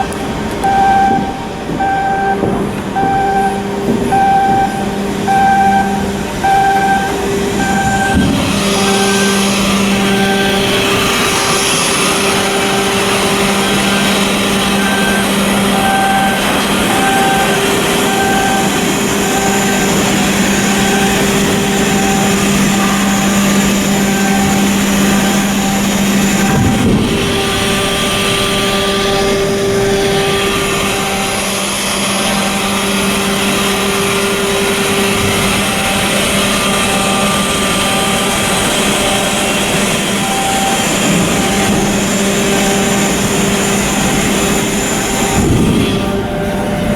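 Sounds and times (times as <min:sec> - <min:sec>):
heavy machinery humming: 0:00.0 - 0:46.9
pulsing high tones: 0:00.0 - 0:46.9.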